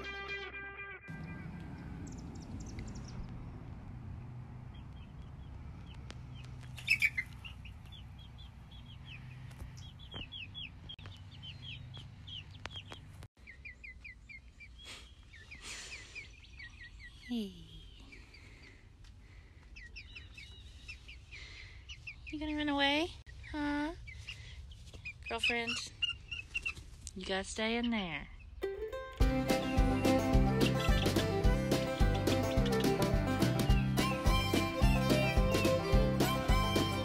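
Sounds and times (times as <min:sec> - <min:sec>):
chicks peeping: 0:01.1 - 0:18.8, 0:19.6 - 0:27.0, 0:29.5 - 0:37.0.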